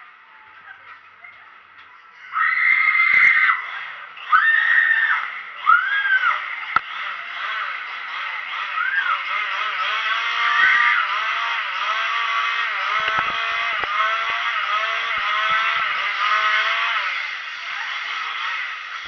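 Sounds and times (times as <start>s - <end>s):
ride car mechanical whine: 0.0s - 19.0s.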